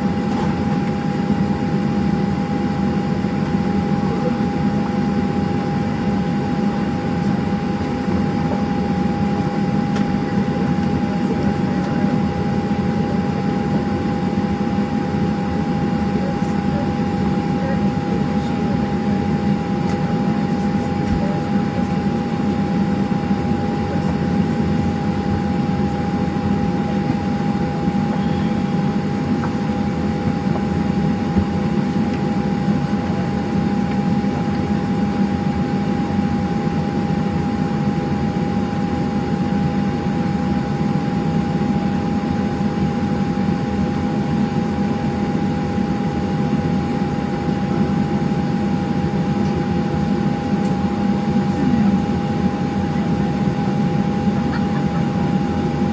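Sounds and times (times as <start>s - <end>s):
engine and air conditioning hum: 0.0s - 55.9s.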